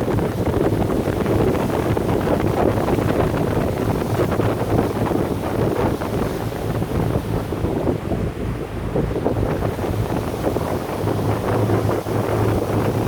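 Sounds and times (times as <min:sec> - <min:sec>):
low boat hum: 0:00.0 - 0:13.0
wind buffeting microphone: 0:00.0 - 0:13.0.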